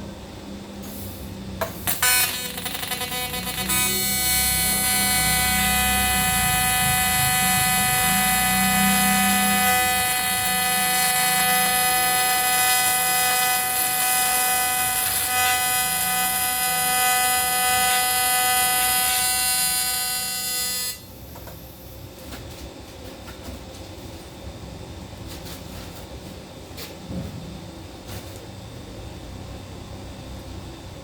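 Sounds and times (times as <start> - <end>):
steady electrical buzz: 0.0 - 31.0.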